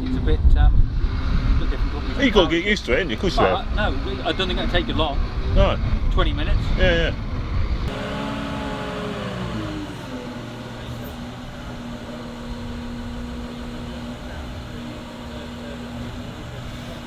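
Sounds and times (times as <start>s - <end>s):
diesel engine idling: 0.7s - 17.0s.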